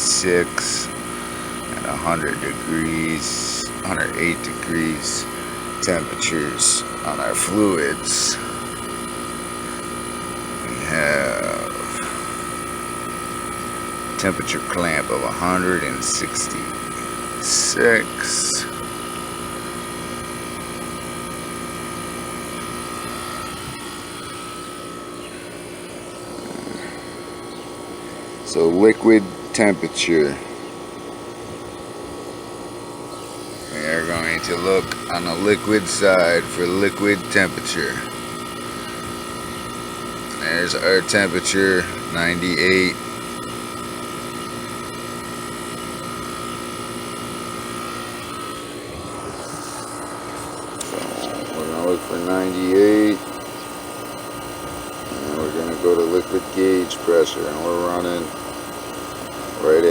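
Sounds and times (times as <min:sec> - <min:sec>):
air conditioner unit humming: 0:00.0 - 0:59.9.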